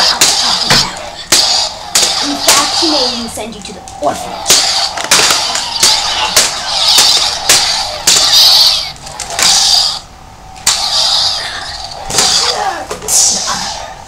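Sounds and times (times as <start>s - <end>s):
toy lightsabers clacking: 0.0s - 13.8s.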